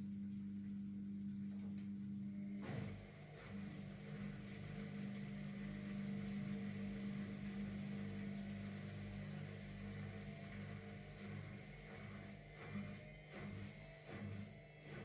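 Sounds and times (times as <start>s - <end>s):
electric motor hum: 2.1s - 15.0s.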